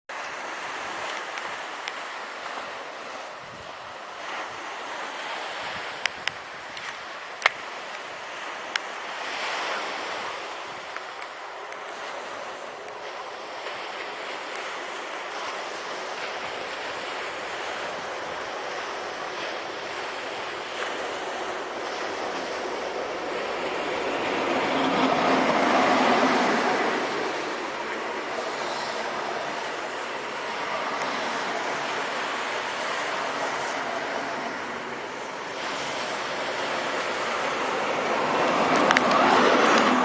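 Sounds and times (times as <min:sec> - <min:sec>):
surf washing on beach: 0:00.1 - 0:40.0
train rumble: 0:00.2 - 0:40.0.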